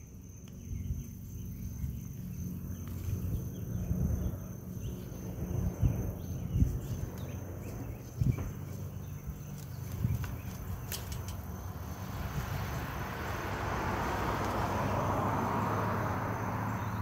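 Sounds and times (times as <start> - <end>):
steady low hum: 0.0 - 13.7
vehicle passing: 1.1 - 17.0.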